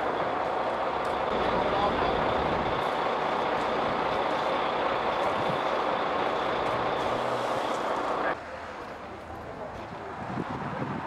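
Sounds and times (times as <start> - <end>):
heavy truck running: 0.0 - 10.9.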